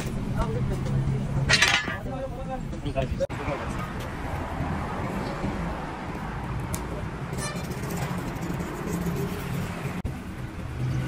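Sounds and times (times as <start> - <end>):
street and workshop noise: 0.0 - 11.0.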